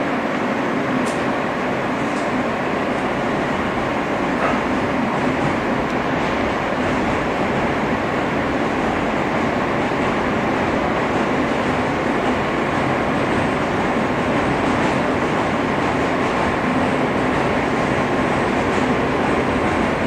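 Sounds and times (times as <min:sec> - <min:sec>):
subway car wheels rumbling on rail: 0:00.0 - 0:20.0.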